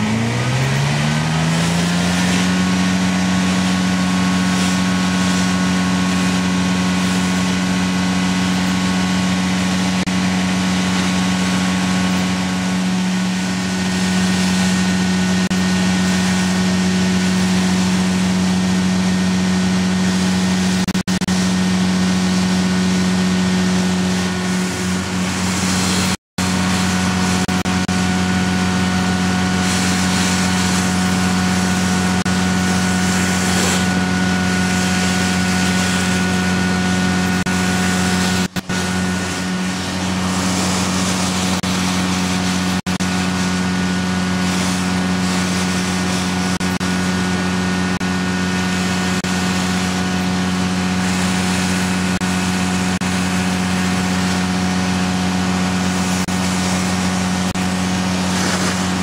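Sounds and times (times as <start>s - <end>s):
vacuum system loud drone: 0.0s - 59.0s.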